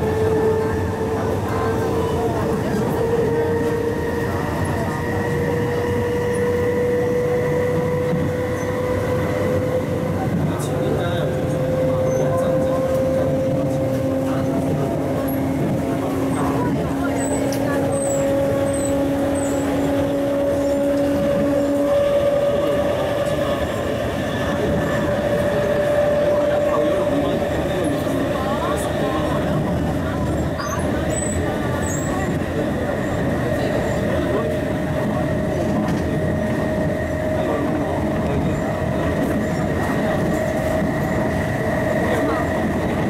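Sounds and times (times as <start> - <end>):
electrical hum of train: 0.0 - 43.0
train wheels rumbling on track: 0.0 - 43.0.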